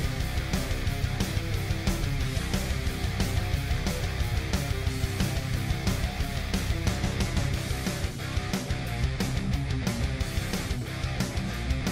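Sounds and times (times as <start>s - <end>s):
rock music with distorted guitar: 0.0s - 11.9s.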